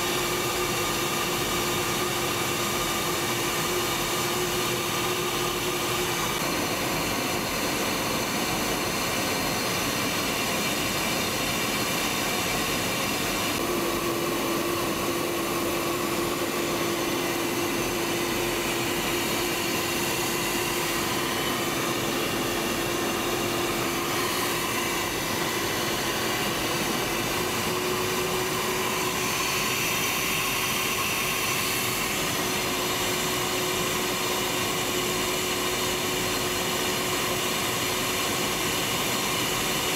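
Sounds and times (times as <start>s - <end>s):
jet cockpit airflow and engine hum: 0.0s - 39.9s.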